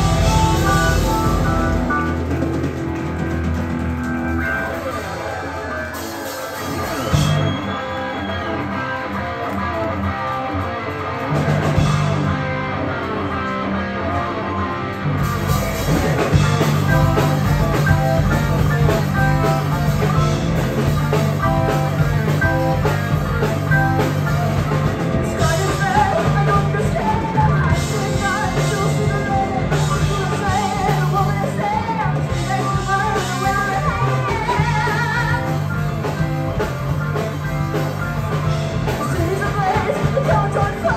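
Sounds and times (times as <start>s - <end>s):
bass line: 0.0s - 40.9s
drums: 0.0s - 40.9s
live rock band playing: 0.0s - 40.9s.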